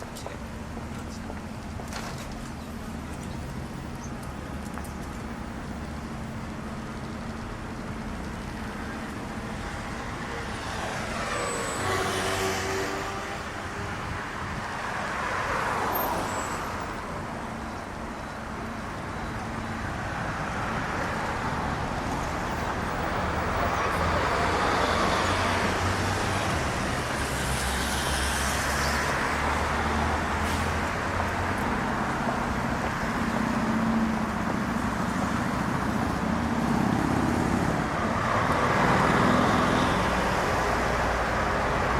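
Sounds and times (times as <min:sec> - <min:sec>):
hum of passing traffic: 0:00.0 - 0:41.9.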